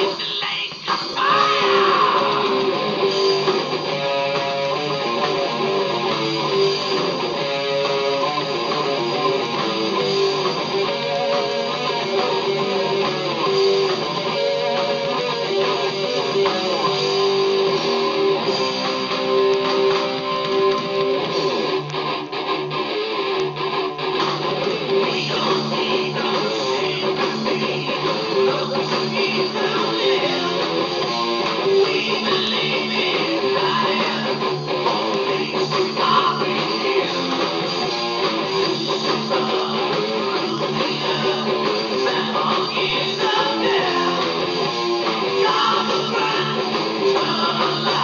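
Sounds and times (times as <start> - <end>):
metal song with distorted guitars: 0.0 - 48.0.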